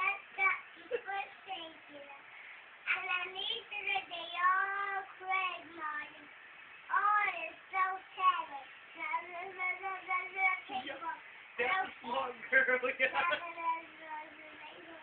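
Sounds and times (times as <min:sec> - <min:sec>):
girl singing unaccompanied: 0:00.0 - 0:12.1, 0:13.2 - 0:15.0.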